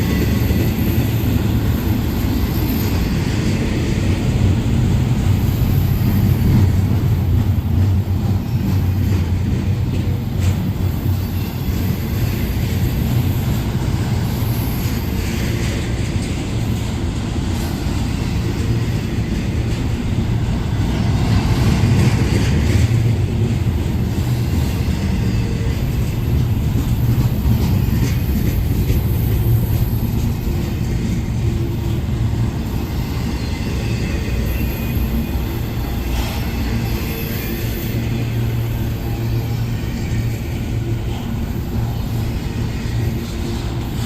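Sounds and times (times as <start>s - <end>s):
diesel locomotive engine: 0.0s - 44.0s
train rolling past: 0.0s - 44.0s.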